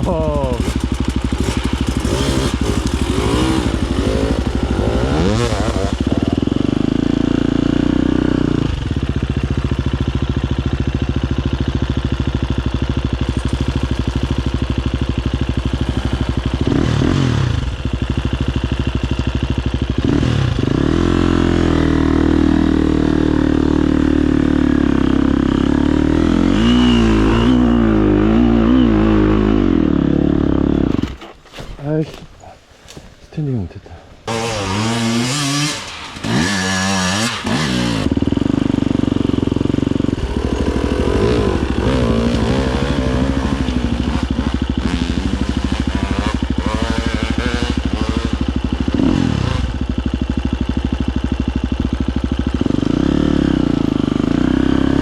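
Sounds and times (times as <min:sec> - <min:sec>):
motorcycle engine revving: 0:00.0 - 0:31.4, 0:34.2 - 0:55.0.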